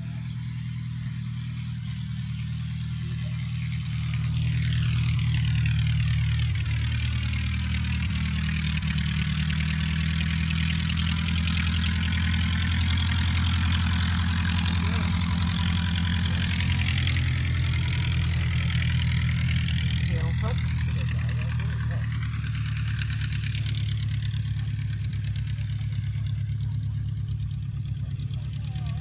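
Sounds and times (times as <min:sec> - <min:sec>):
propeller aircraft flying overhead: 0:00.0 - 0:29.0.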